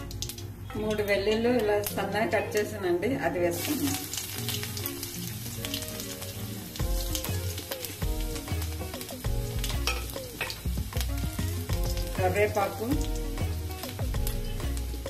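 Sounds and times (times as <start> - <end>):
mustard seeds crackling and popping: 0.0 - 2.8, 3.4 - 15.0
background music: 0.0 - 15.0
garlic sizzling in oil: 0.0 - 15.0.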